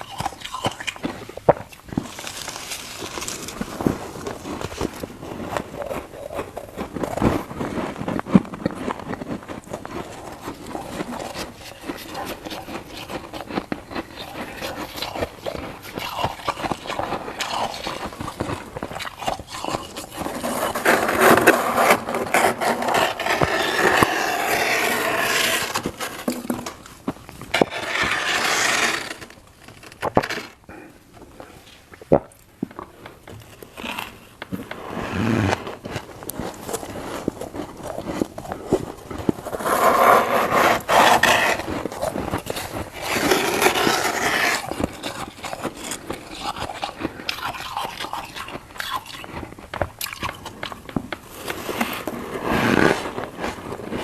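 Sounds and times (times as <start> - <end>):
crunching ice being eaten: 0.0 - 54.0.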